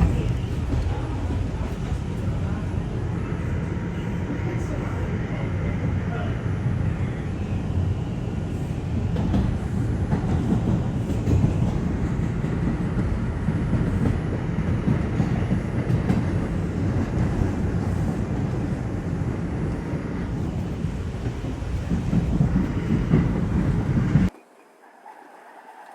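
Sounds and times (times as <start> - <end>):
subway train wheels rumbling: 0.0 - 24.3.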